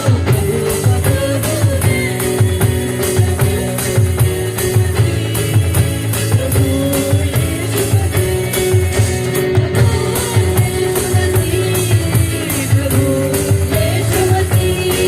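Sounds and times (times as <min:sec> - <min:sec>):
drum and percussion beat: 0:00.0 - 0:15.0.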